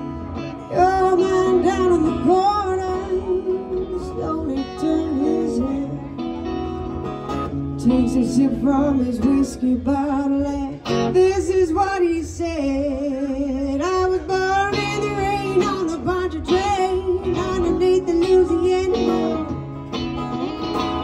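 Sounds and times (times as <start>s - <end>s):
electric guitar lead line: 0.0s - 21.0s
strummed acoustic guitar: 0.0s - 21.0s.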